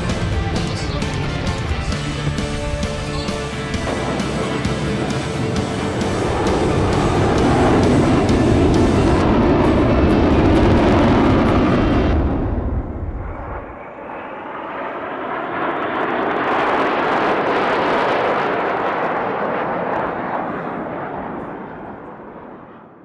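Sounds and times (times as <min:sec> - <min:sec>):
jet aircraft roaring past: 0:00.0 - 0:23.0.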